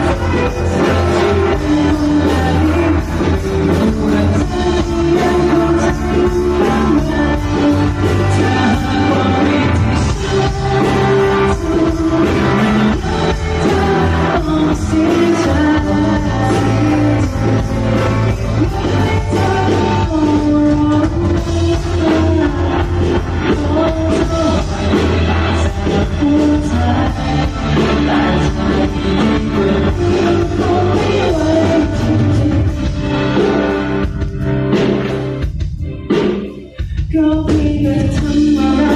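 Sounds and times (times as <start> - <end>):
person singing: 0.0 - 33.8, 35.9 - 38.9
live rock band: 0.0 - 38.9.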